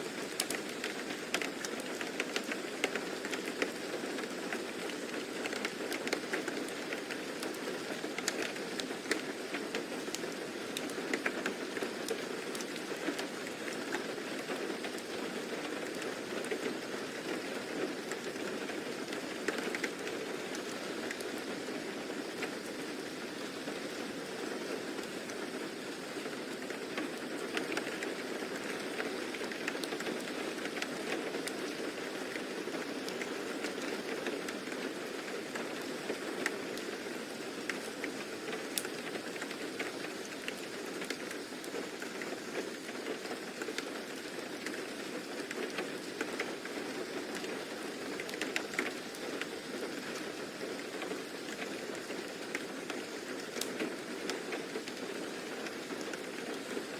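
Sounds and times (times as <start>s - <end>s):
faint ticks of raindrops: 0.0s - 56.9s
steady rain: 0.0s - 56.9s.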